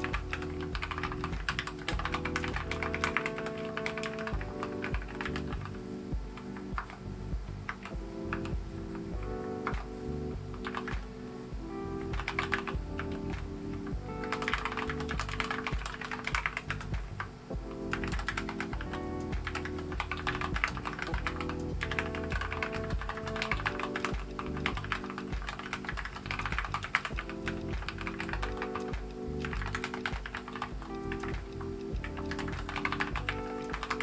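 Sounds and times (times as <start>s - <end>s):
mechanical keyboard typing: 0.0s - 7.0s, 9.2s - 11.1s, 12.1s - 13.5s, 14.2s - 34.0s
background music: 0.0s - 34.0s.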